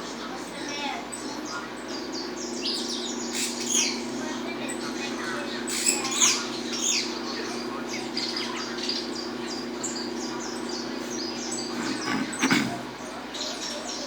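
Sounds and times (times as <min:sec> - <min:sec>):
finch singing high chirps: 0:00.0 - 0:14.0
steady low hum: 0:00.0 - 0:14.0.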